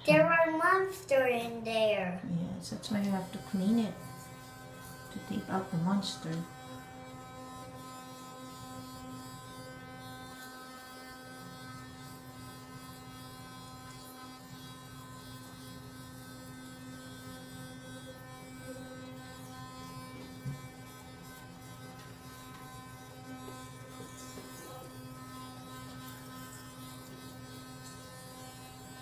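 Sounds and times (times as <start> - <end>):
electric toothbrush humming: 0.0 - 29.0.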